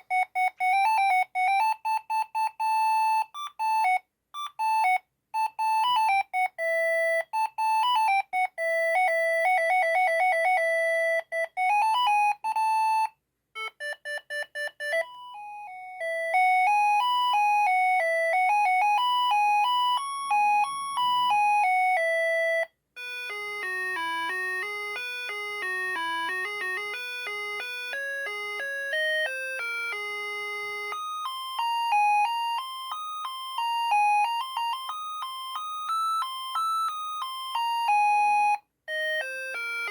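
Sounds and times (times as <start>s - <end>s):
electronic ringtone melodies: 0.0s - 39.9s.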